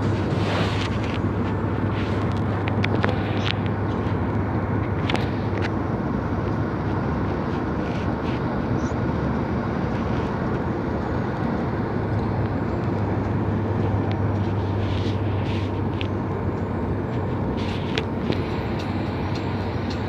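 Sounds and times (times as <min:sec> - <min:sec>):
vehicle interior rumble: 0:00.0 - 0:20.0.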